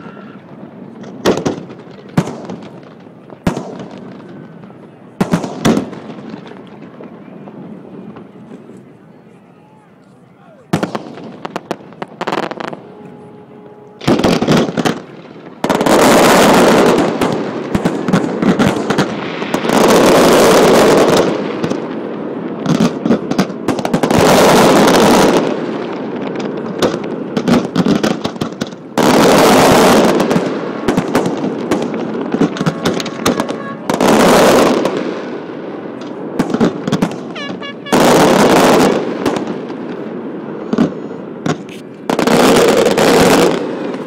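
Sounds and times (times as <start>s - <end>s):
firework bangs: 0.0s - 8.8s, 10.7s - 44.0s
fireworks crackling: 0.0s - 44.0s.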